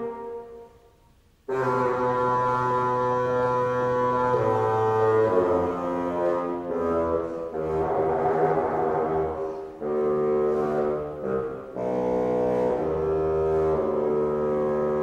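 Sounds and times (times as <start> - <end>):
solo bassoon melody: 0.0 - 15.0.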